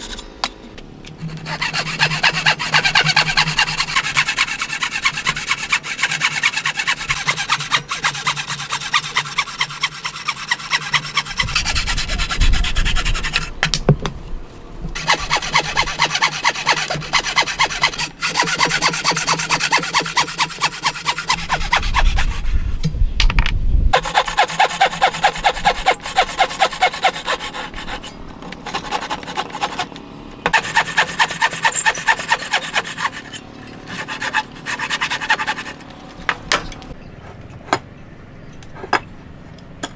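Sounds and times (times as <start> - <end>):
hand saw cutting wood: 1.2 - 13.5, 15.0 - 22.7, 24.0 - 36.0.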